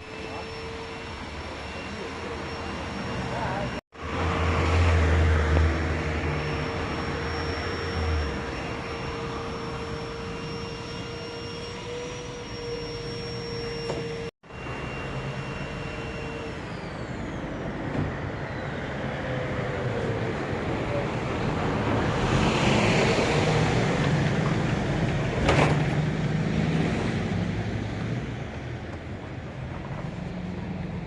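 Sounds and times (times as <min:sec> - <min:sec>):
car wash motor whine: 0:00.0 - 0:31.0.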